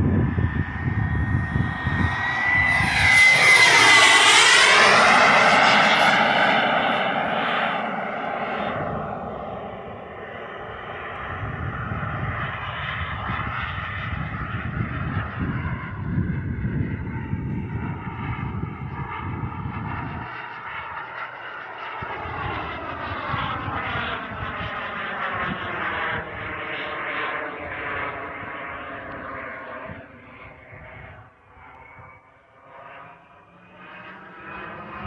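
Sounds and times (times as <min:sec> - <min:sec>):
model jet engine passing overhead: 0:00.0 - 0:35.0.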